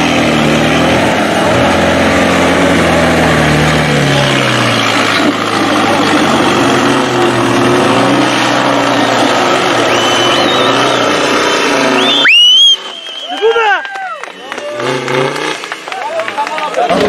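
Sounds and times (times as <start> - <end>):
diesel truck engines running hard: 0.0 - 17.0.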